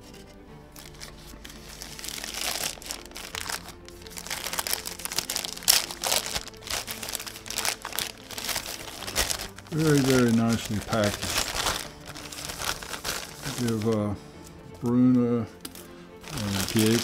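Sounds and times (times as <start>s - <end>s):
soft background music: 0.0s - 17.0s
packing material crinkling: 0.8s - 14.2s, 15.7s - 17.0s.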